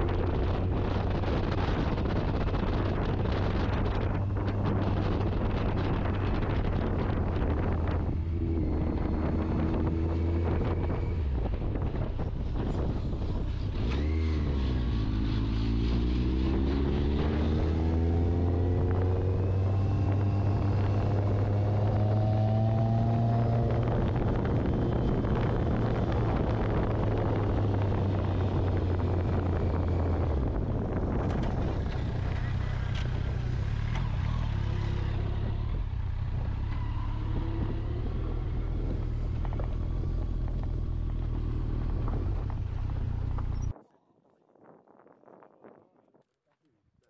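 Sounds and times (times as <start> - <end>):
wind buffeting microphone: 0.0 - 46.2.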